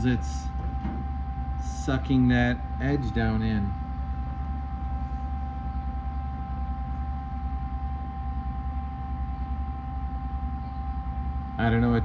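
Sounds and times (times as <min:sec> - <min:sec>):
faint steady whine: 0:00.0 - 0:12.0
low machine hum: 0:00.0 - 0:12.0.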